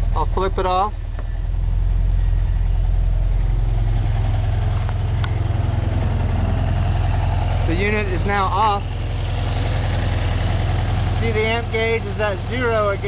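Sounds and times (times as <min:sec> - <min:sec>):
van engine idling: 0:00.0 - 0:13.0.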